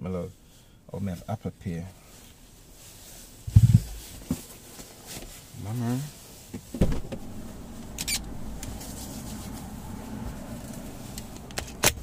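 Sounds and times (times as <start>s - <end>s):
low rumble inside a car: 0.2s - 4.2s, 4.9s - 12.0s.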